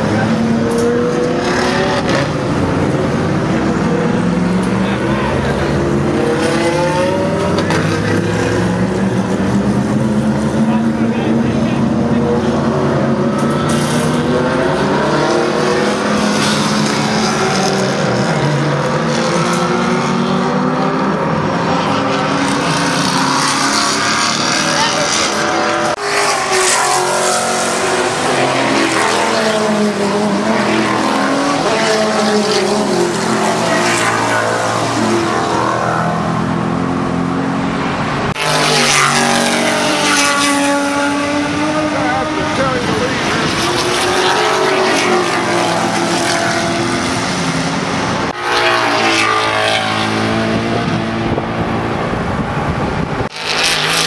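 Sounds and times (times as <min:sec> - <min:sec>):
race car engines passing at high revs: 0:00.0 - 0:54.0.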